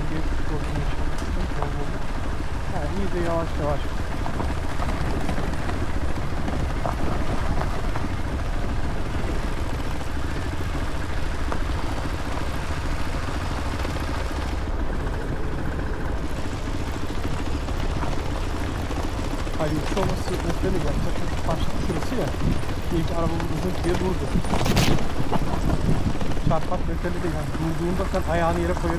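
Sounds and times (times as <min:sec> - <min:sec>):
motorcycle engine running: 0:00.0 - 0:28.9
wind buffeting microphone: 0:00.0 - 0:28.9.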